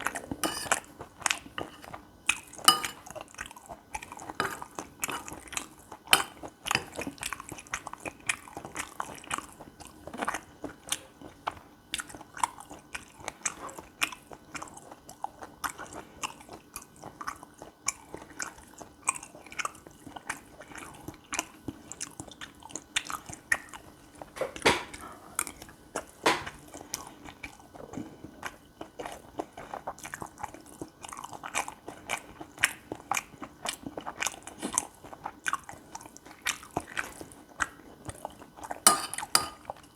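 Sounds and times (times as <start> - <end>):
chewing with mouth clicks: 0.0 - 24.3, 25.3 - 38.8.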